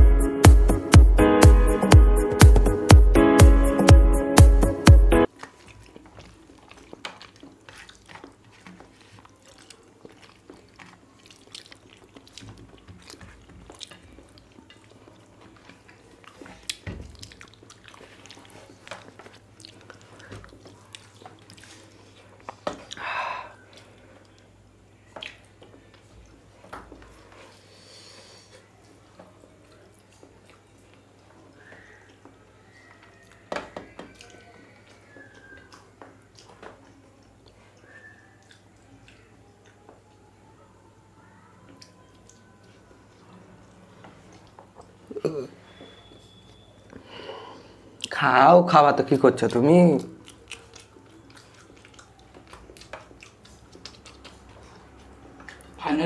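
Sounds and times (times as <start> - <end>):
wet chewing sounds: 5.2 - 47.1, 47.9 - 56.0.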